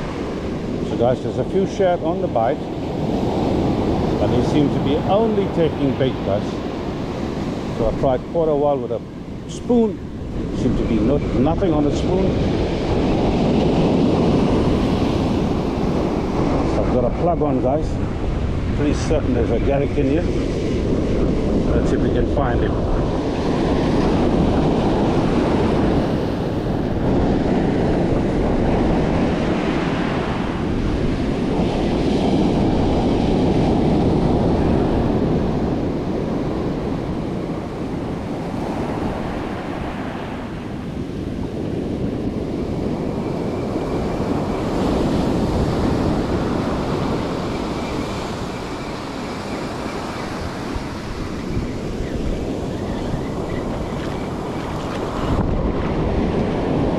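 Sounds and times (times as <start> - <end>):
ocean surf breaking on beach: 0.0 - 56.9
wind buffeting microphone: 0.0 - 56.9.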